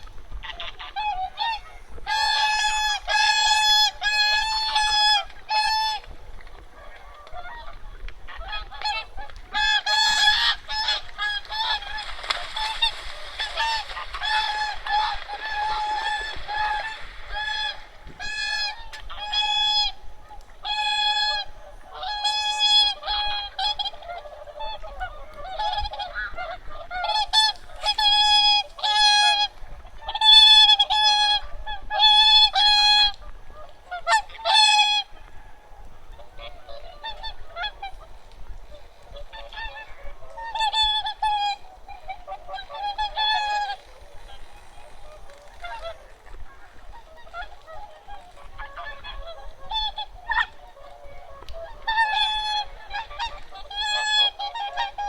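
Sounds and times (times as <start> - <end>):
waterfowl honking: 0.0 - 55.0.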